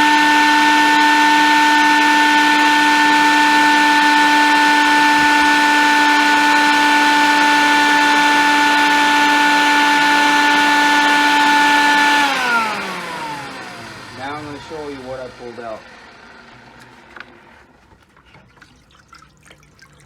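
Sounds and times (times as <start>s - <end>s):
wet vac motor whining: 0.0s - 18.5s.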